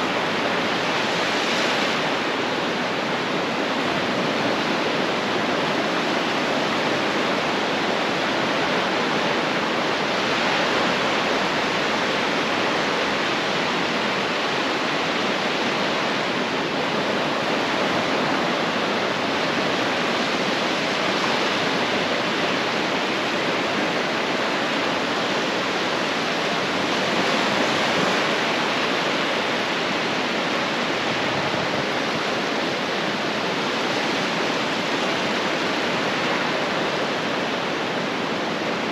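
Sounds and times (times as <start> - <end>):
ocean surf on a beach: 0.0 - 38.9.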